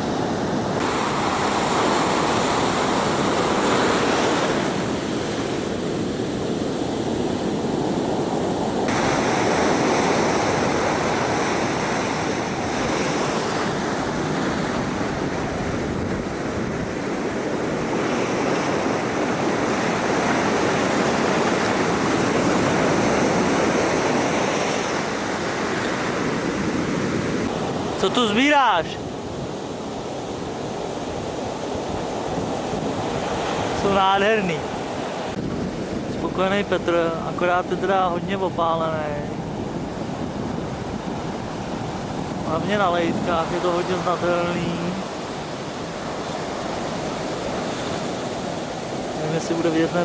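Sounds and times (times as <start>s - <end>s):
surf breaking on a beach: 0.0s - 50.0s.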